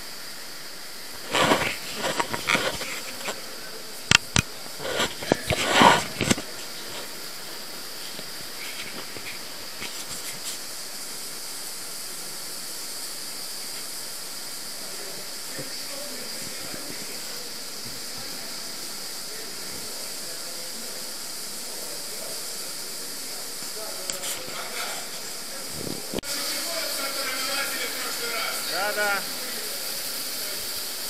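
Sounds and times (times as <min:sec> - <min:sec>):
water flowing in tunnel: 0:00.0 - 0:31.0.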